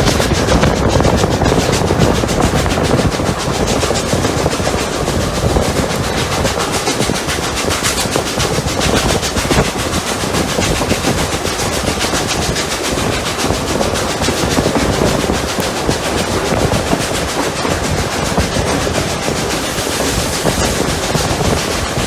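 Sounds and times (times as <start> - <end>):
steam locomotive exhaust beat: 0.0 - 22.0.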